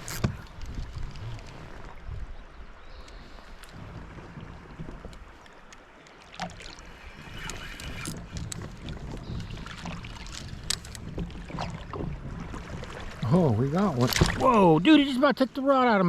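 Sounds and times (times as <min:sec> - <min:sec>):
water rushing around kayak hull: 0:00.0 - 0:16.0.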